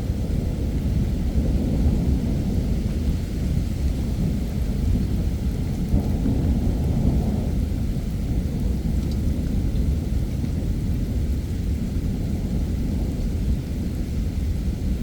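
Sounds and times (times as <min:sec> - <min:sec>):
low rumble of thunder: 0:00.0 - 0:15.0.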